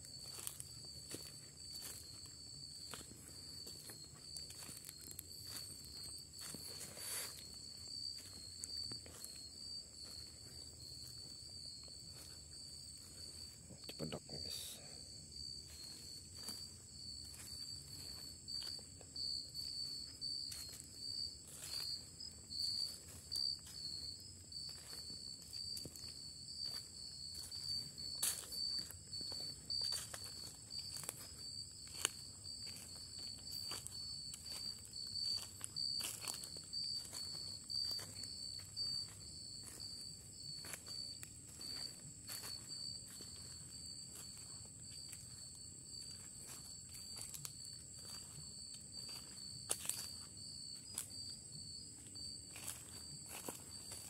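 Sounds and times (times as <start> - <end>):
insects continuous high whine: 0.0 - 54.0
insects pulsing trill: 0.0 - 54.0
footsteps on dry leaves: 0.1 - 13.4, 15.7 - 24.0, 24.6 - 50.2.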